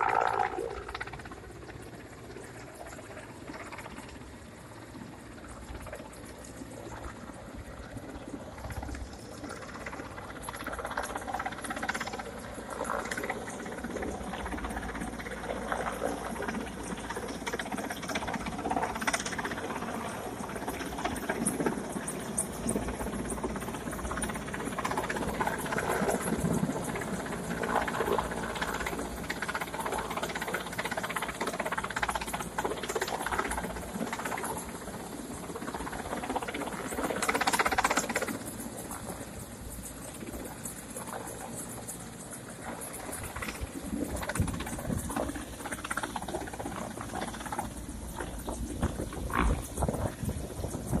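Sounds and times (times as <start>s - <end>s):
helicopter flying overhead: 0.0s - 51.0s.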